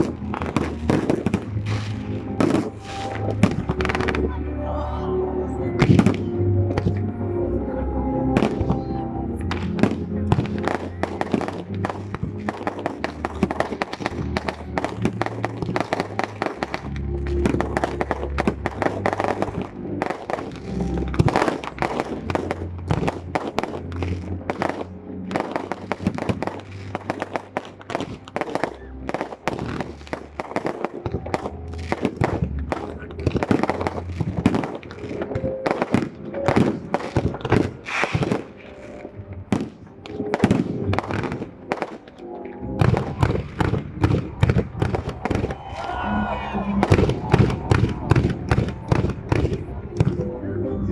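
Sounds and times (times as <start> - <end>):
fireworks bursting and crackling: 0.0 - 4.4, 5.8 - 7.0, 8.3 - 50.3
loud music: 0.0 - 50.9.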